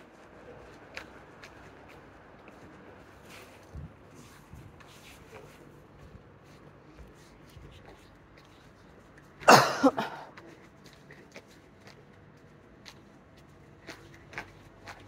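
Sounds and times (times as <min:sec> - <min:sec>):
footsteps on pavement: 0:00.0 - 0:15.0.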